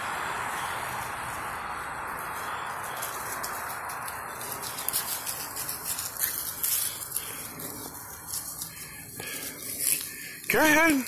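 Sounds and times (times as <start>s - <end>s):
dogs scampering on grass and leaves: 0.5s - 11.0s.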